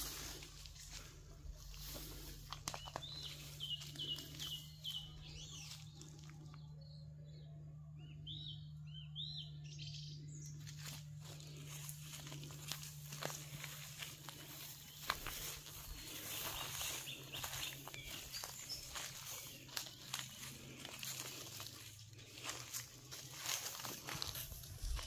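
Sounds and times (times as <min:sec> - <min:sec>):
bird chirping: 0:02.7 - 0:25.0.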